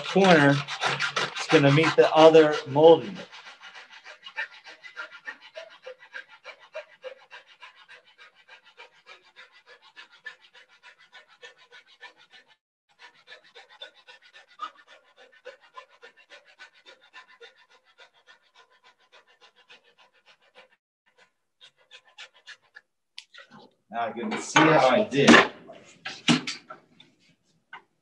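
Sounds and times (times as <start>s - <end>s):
hand saw cutting wood: 0.0s - 23.7s, 24.3s - 26.8s.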